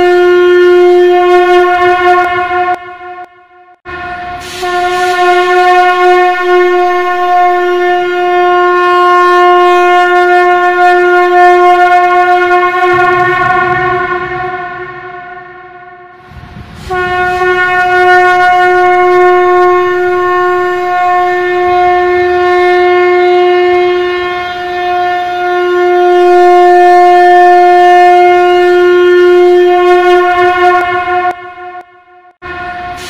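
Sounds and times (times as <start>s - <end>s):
conch shell blast: 0.0s - 33.0s.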